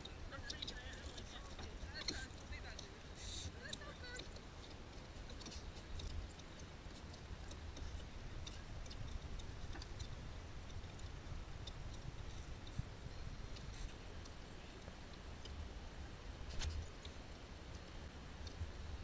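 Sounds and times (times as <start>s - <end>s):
faint ticks and clicks: 0.0s - 19.0s
low steady rumble: 0.0s - 19.0s.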